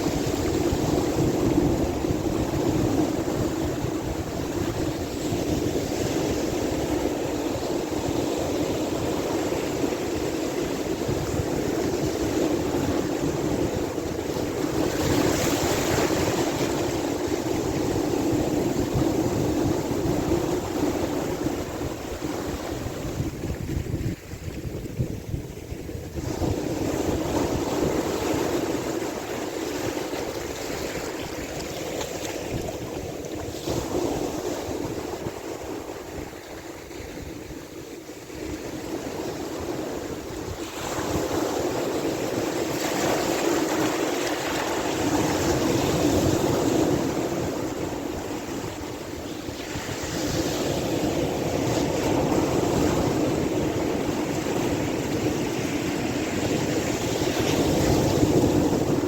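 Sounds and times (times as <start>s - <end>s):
sea waves washing: 0.0s - 59.0s
wind buffeting microphone: 0.0s - 59.0s.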